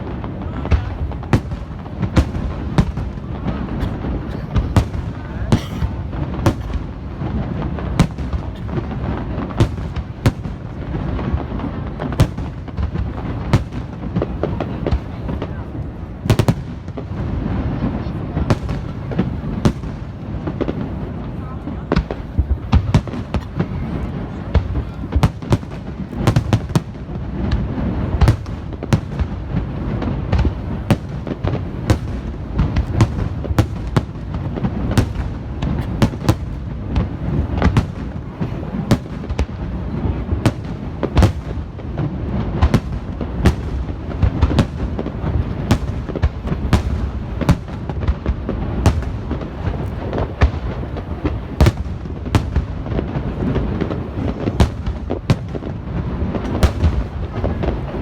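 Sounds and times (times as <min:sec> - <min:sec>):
fireworks bangs: 0:00.0 - 0:58.0
rumble of echoing explosions: 0:00.0 - 0:58.0.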